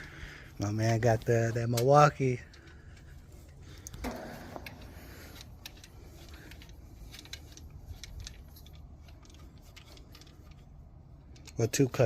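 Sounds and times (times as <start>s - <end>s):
steady low rumble: 0.0s - 12.0s
hand tools clicking and tapping: 0.8s - 12.0s.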